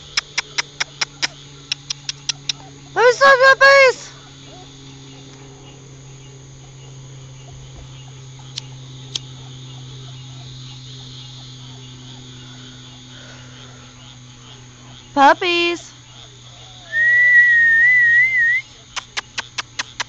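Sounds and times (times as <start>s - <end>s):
crickets trilling: 0.0s - 20.0s
low steady hum: 0.0s - 20.0s.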